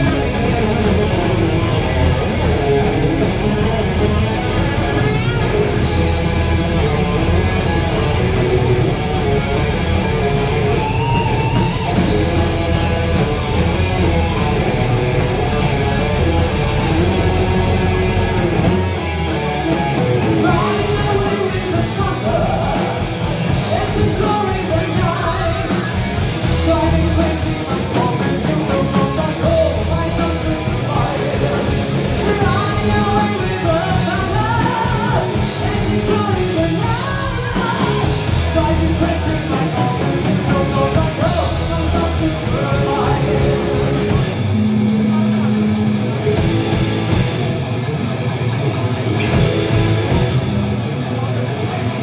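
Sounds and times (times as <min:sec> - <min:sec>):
bass guitar: 0:00.0 - 0:52.0
distorted electric guitars: 0:00.0 - 0:52.0
drum kit: 0:00.0 - 0:52.0.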